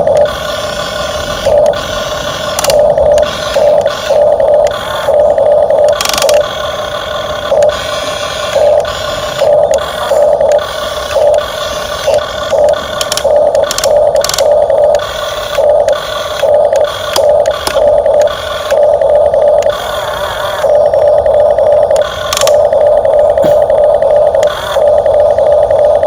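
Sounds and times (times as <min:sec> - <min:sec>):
electric gear motors whining: 0:00.0 - 0:26.0.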